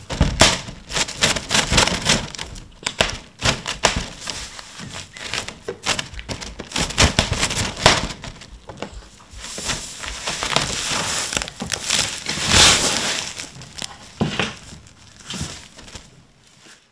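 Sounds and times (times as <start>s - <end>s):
plastic film crinkling: 0.0s - 16.9s.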